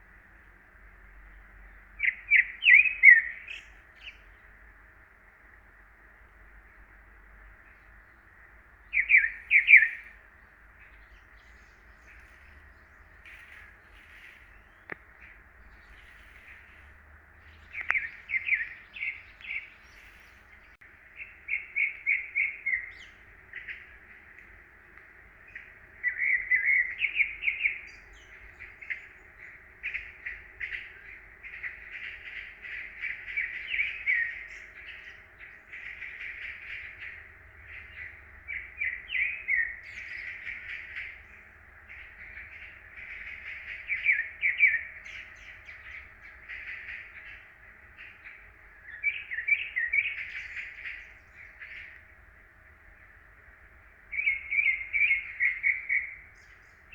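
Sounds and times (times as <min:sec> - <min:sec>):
songbirds chirping and twittering: 0:00.0 - 0:56.9.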